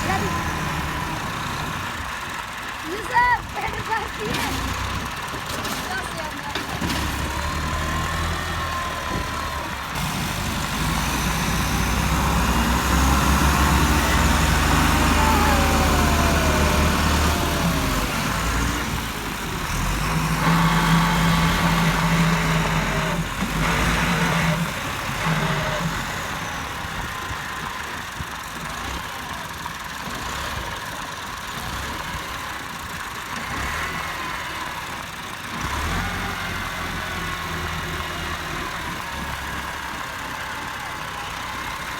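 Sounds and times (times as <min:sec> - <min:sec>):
tractor engines under load: 0:00.0 - 0:41.9.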